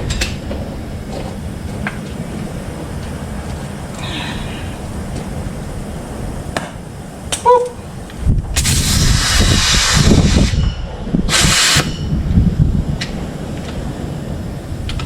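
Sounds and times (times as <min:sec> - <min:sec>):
loud hissing bursts: 0:00.0 - 0:14.9.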